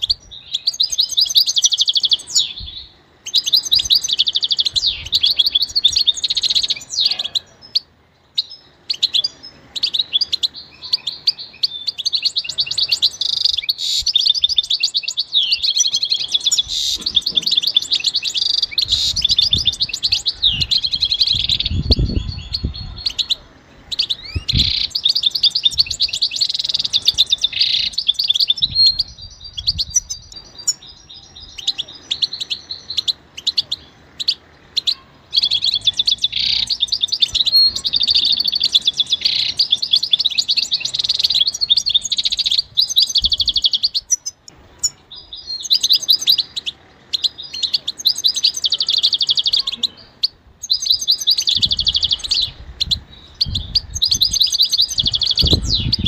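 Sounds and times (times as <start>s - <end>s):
goldfinch twittering and trills: 0.0s - 56.0s.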